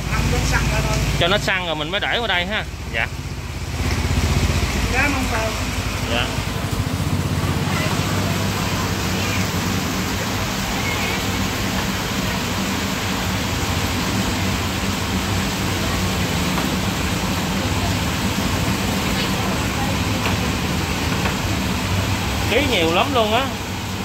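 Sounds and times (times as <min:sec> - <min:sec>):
deep-frying sizzle in oil: 0:00.0 - 0:24.0.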